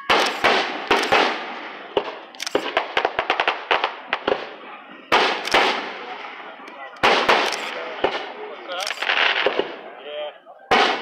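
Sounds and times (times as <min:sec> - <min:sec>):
fireworks crackling pops: 0:00.0 - 0:05.8, 0:06.7 - 0:09.8
fireworks bangs: 0:00.0 - 0:10.0, 0:10.7 - 0:11.0.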